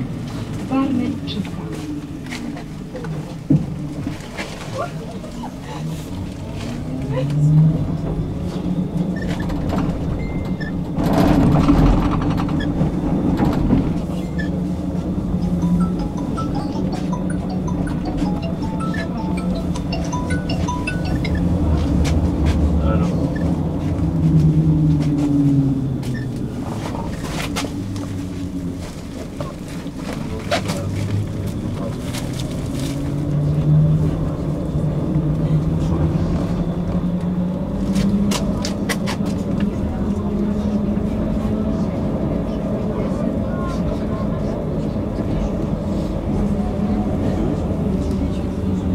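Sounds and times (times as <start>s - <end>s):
tram motor hum: 0.0s - 48.9s
wheel and rail rumble: 0.0s - 48.9s.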